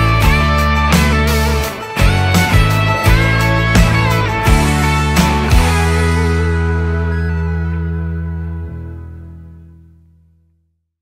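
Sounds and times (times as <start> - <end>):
background music with guitar: 0.0 - 10.5.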